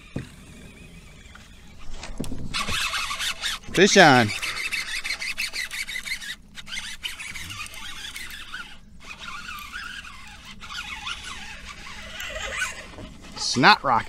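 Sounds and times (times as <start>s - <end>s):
fishing reel ratcheting whir: 0.0s - 14.0s.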